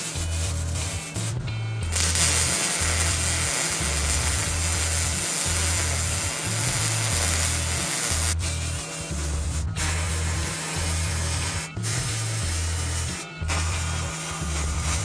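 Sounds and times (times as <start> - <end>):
music with bass beat: 0.0 - 15.0
welder arc crackling and hissing: 0.0 - 15.0.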